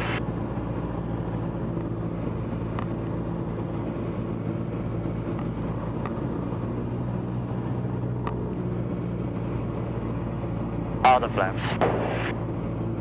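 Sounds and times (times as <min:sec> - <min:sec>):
airplane engine and propeller droning: 0:00.0 - 0:13.0.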